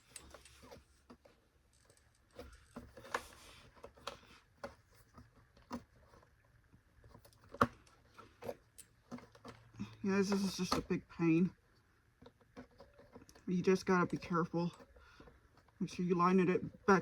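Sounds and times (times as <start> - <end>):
plastic parts clicking and knocking: 0.0 - 17.0.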